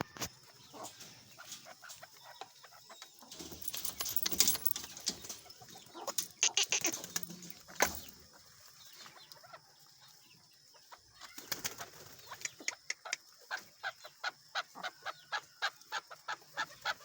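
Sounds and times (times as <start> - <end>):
partridge clucking calls: 0.0 - 9.6, 10.8 - 17.0.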